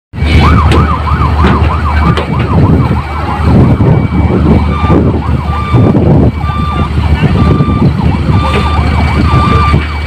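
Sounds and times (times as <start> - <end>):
fast warbling siren: 0.2 - 10.0.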